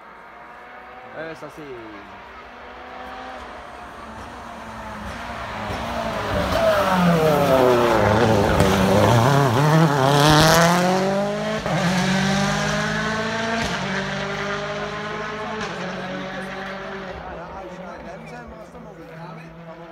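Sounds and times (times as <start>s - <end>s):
rally car engine passing: 0.0s - 19.9s.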